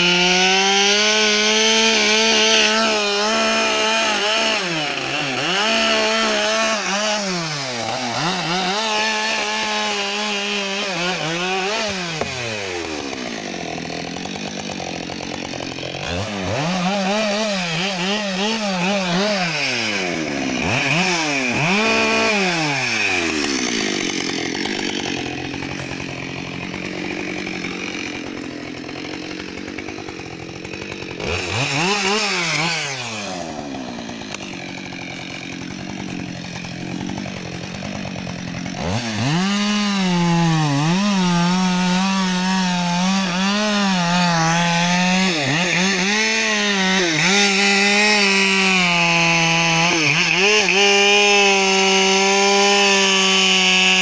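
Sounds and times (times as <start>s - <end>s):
chainsaw idling and revving: 0.0s - 54.0s
chainsaw sawing into log: 0.0s - 54.0s.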